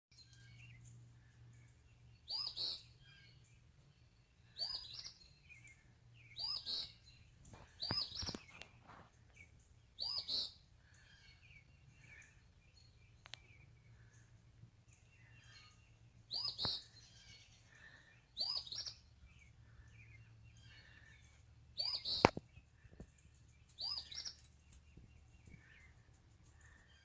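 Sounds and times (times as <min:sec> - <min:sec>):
small birds chirping: 0:00.1 - 0:27.0.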